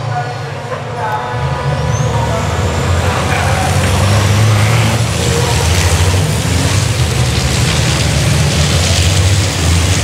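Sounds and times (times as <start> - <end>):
truck engines passing: 0.0 - 10.0.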